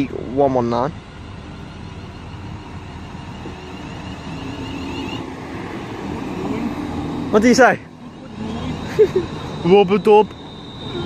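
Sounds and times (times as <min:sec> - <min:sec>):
high electric whine: 0:00.0 - 0:11.0
train wheel and running noise: 0:00.0 - 0:11.0.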